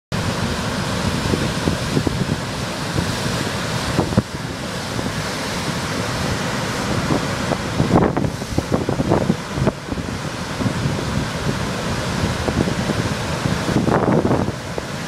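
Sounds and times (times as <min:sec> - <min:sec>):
surf washing over rocks: 0:00.1 - 0:15.0
wind buffeting microphone: 0:00.2 - 0:15.0.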